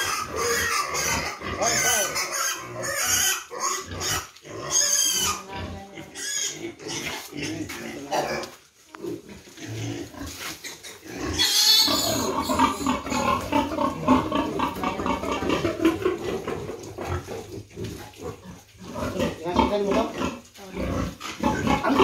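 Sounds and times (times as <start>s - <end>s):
piglet squealing and grunting: 0.0s - 8.5s, 10.6s - 17.4s, 19.0s - 22.0s.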